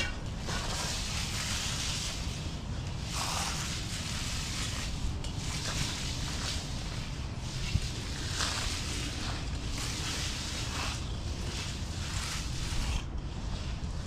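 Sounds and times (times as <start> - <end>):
broom scraping on concrete: 0.0 - 14.0.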